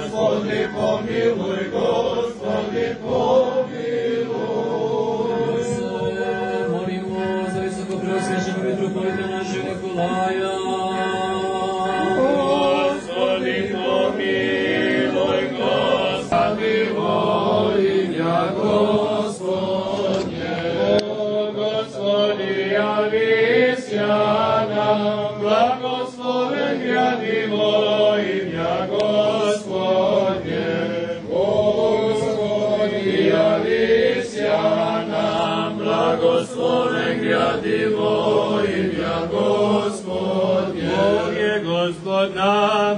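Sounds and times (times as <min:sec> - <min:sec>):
voices chanting a slow hymn: 0:00.0 - 0:42.9.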